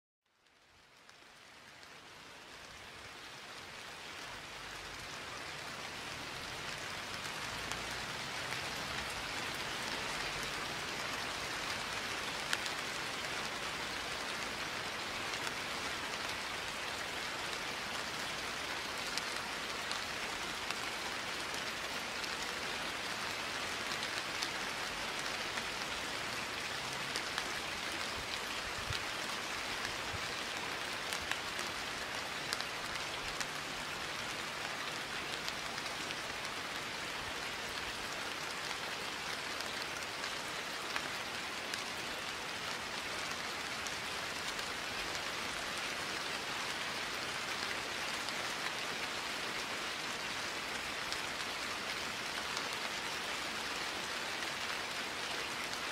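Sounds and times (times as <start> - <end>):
steady rain falling: 0.3 - 55.9.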